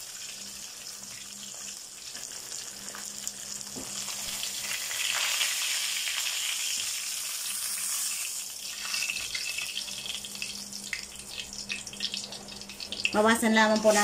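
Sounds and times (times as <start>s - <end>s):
fish frying in oil: 0.0s - 14.0s.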